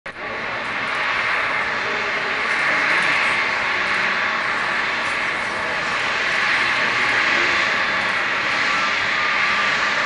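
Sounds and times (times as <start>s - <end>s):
jet engines whining: 0.1s - 10.0s.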